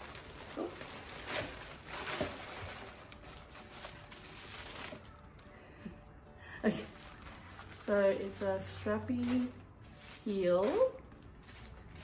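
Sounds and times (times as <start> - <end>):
tissue paper rustling: 0.0 - 5.7, 6.6 - 12.0.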